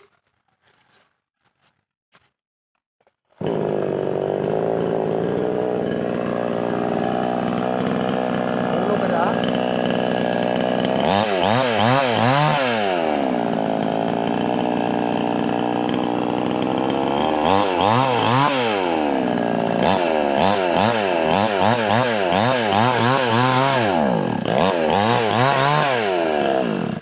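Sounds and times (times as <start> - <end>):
chainsaw revving: 3.4 - 27.0.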